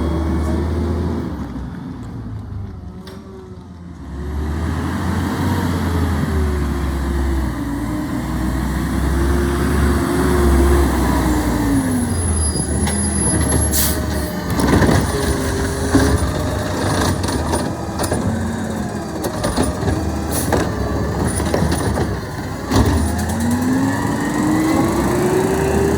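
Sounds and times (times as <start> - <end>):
truck diesel engine rumbling: 0.0 - 25.9.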